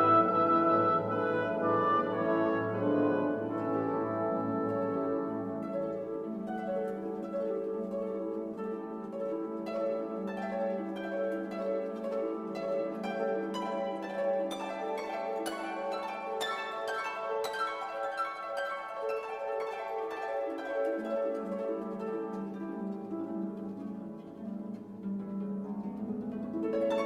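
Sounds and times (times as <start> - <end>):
soft classical instrumental music: 0.0 - 27.0.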